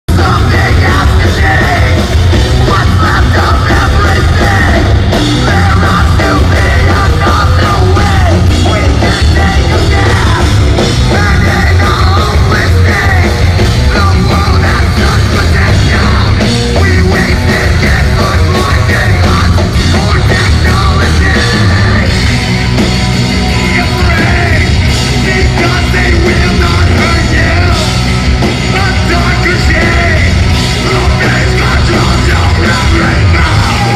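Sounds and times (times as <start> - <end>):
heavy metal band playing live: 0.0 - 33.9.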